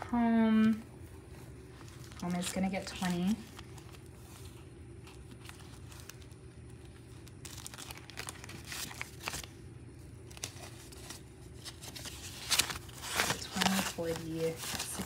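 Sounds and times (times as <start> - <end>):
paper bills handled: 0.0 - 15.0
plastic pouch crinkling: 0.6 - 15.0.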